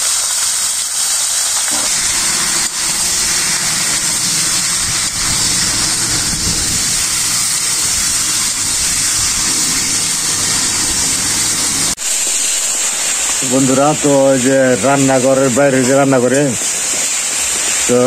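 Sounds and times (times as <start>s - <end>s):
chicken sizzling in a pan: 0.0s - 18.0s
heavy rain falling: 0.0s - 18.0s.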